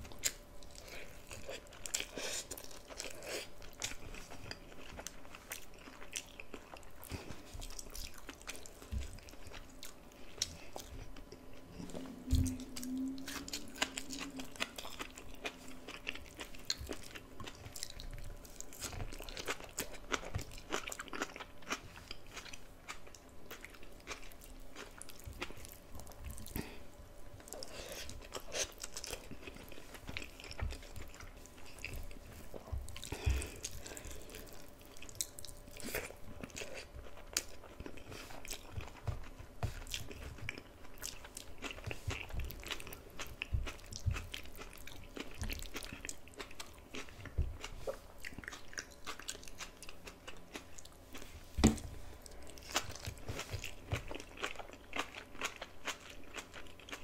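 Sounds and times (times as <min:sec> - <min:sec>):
person chewing with crunches: 0:00.0 - 0:57.0.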